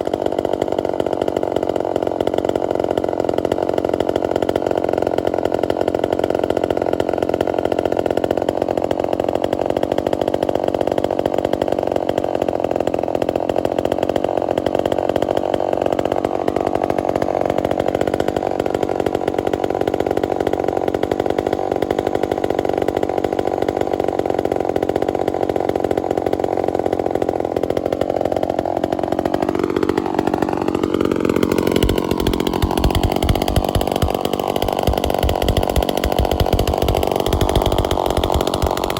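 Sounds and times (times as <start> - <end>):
chainsaw engine running hard: 0.0 - 38.9.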